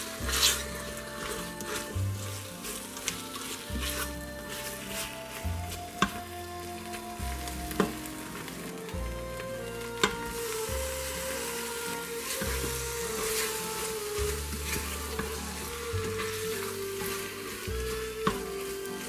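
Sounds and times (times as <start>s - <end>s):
background music: 0.0s - 19.0s
meat sizzling in a pot: 0.0s - 19.0s
spatula stirring: 0.0s - 19.0s.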